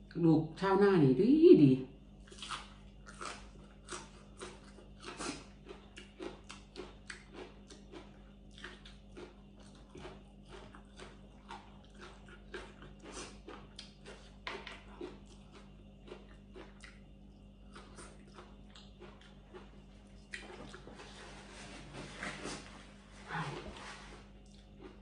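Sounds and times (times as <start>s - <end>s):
person chewing crunchy food: 2.2s - 25.0s.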